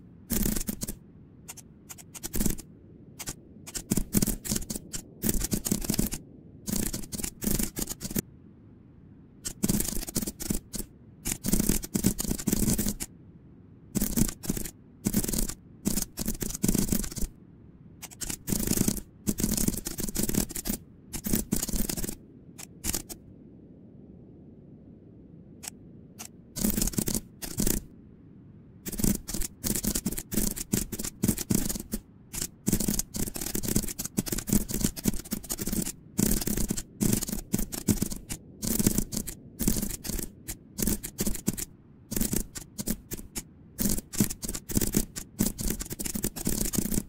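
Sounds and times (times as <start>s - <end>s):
keyboard key clicks: 0.3s - 2.6s, 3.2s - 8.2s, 9.4s - 13.1s, 14.0s - 17.3s, 18.0s - 23.2s, 25.6s - 27.9s, 28.9s - 47.0s.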